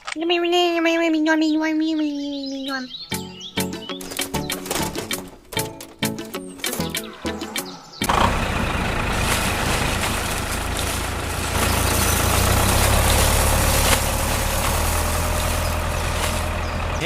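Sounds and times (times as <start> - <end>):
tractor engine humming: 3.1 - 17.0.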